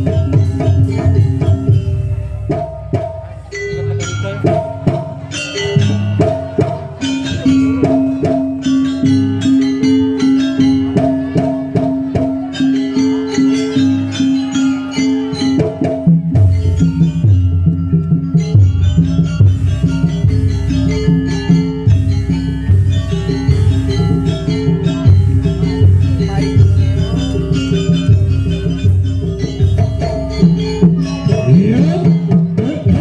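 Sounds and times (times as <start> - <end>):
gamelan drums and metal percussion: 0.0 - 33.0.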